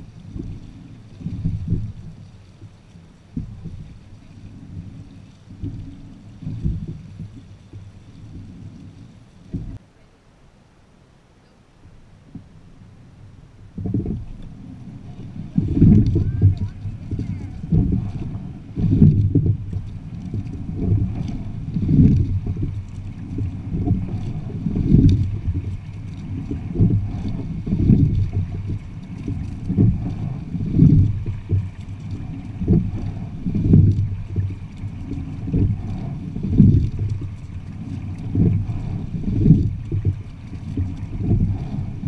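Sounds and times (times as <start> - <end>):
water rushing along boat hull: 0.0 - 42.0.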